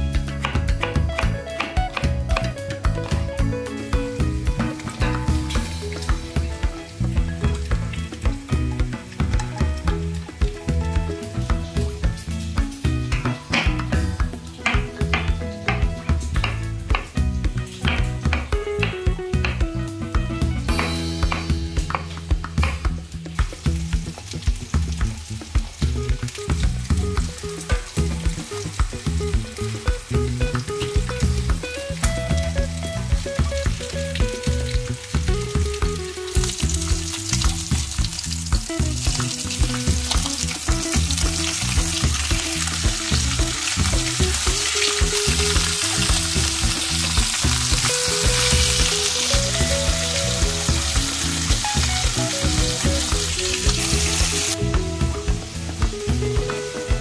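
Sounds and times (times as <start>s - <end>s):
food sizzling in hot oil: 0.0s - 57.0s
soft background music: 0.0s - 57.0s.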